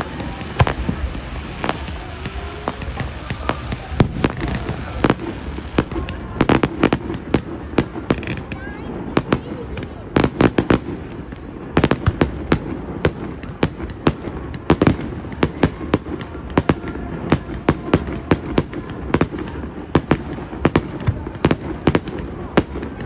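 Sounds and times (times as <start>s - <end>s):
fireworks bangs and cracks: 0.0s - 23.0s.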